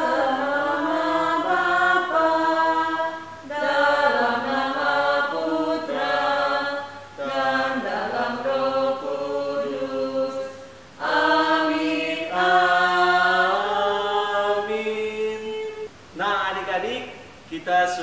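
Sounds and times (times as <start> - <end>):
slow chant-like hymn singing: 0.0 - 17.2.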